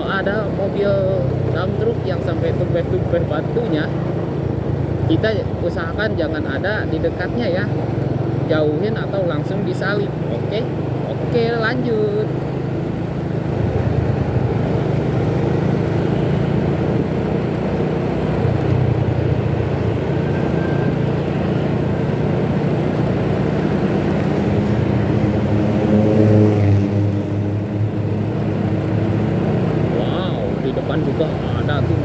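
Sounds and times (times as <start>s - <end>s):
motorcycle engine riding: 0.0s - 32.0s
wind: 0.0s - 32.0s.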